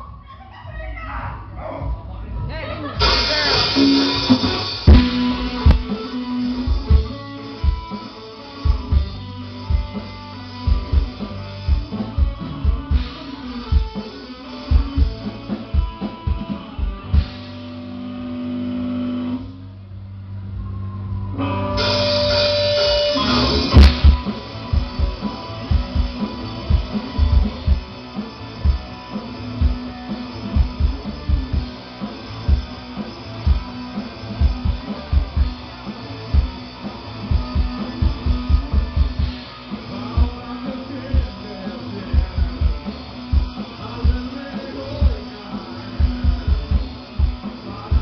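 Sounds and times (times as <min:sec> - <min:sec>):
heavy bass and drum thumps: 0:01.5 - 0:18.0, 0:21.8 - 0:48.0
rock band playing live: 0:02.6 - 0:48.0
guitar riff: 0:03.0 - 0:48.0.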